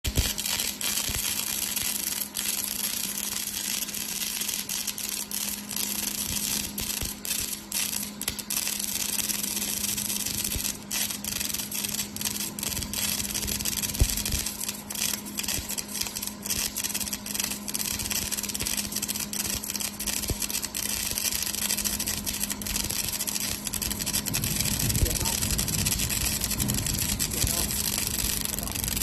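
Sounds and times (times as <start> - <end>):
laser welding hiss and crackle: 0.0 - 29.0
low hum: 5.4 - 29.0.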